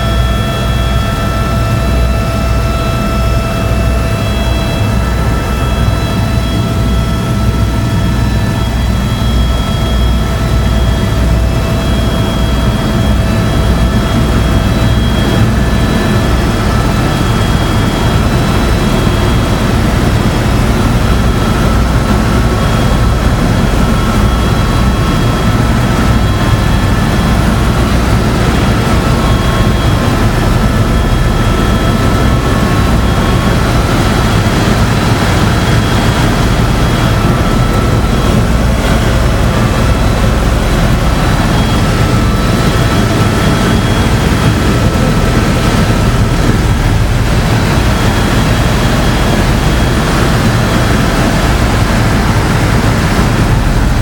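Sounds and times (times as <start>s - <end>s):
helicopter engine rumble: 0.0s - 54.0s
helicopter whining tones: 0.0s - 54.0s.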